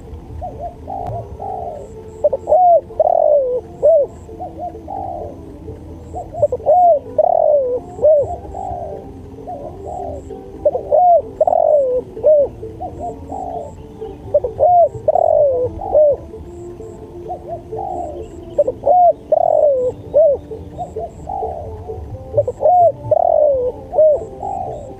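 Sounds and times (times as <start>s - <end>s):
doves cooing: 0.0s - 24.9s
faint high ticking: 0.0s - 24.9s.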